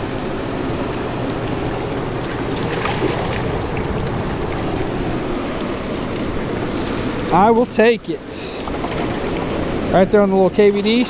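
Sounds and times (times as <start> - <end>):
rushing river water: 0.0 - 11.0.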